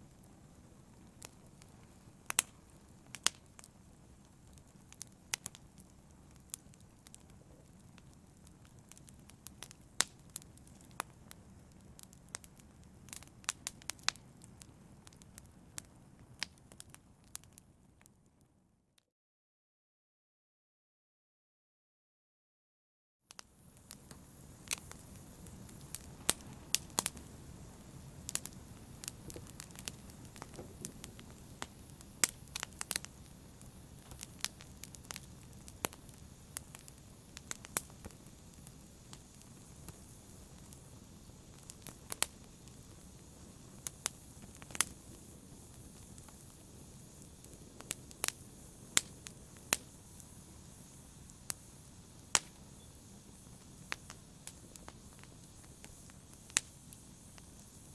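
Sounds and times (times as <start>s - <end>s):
wood fire crackling: 0.0s - 18.2s, 23.3s - 57.9s.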